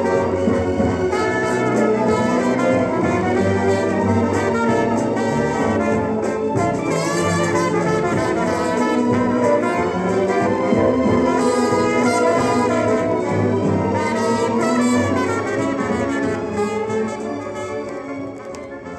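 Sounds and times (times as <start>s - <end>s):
brass music: 0.0s - 18.9s.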